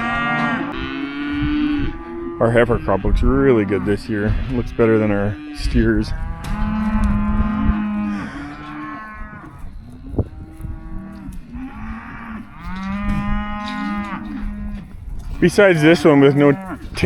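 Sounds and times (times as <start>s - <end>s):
calves bawling: 0.0s - 17.0s.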